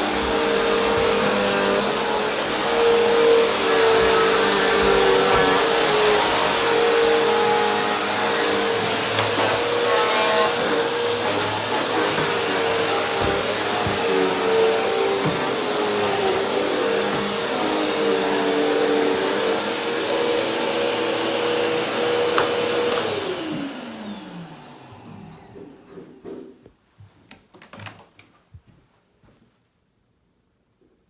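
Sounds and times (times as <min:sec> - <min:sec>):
vacuum cleaner running: 0:00.0 - 0:26.6.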